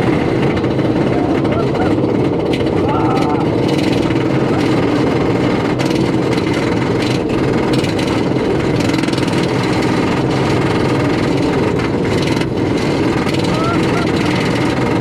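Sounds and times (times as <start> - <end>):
roller coaster chain lift clattering: 0.0 - 15.0.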